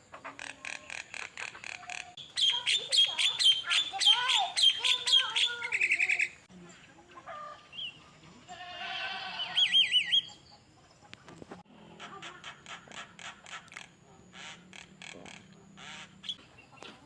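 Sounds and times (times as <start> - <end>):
songbird singing: 0.2 - 17.0.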